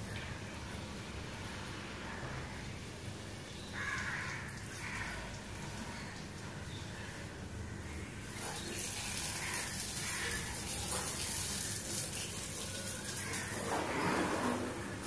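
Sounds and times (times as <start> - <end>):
water spraying from hose: 0.0 - 15.0.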